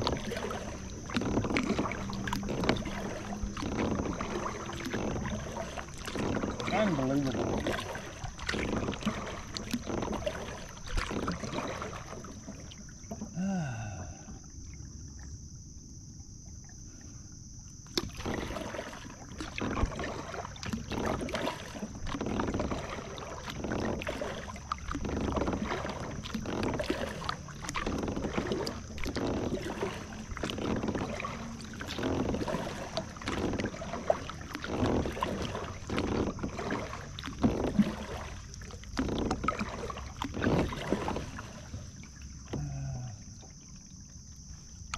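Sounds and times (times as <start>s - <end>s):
paddle strokes swishing water: 0.0s - 13.4s, 16.0s - 44.9s.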